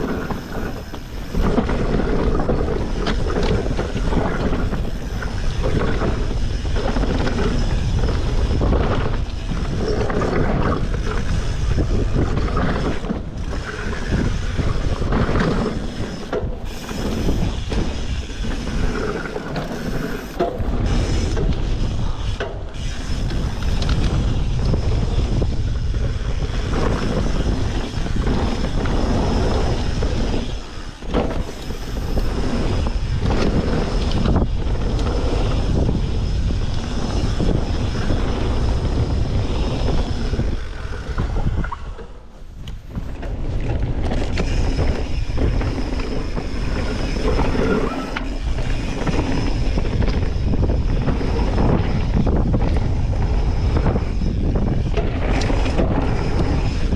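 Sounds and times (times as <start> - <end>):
bike knocks and rattles: 0.0 - 41.8, 42.8 - 56.9
wind noise on microphone: 0.0 - 56.9.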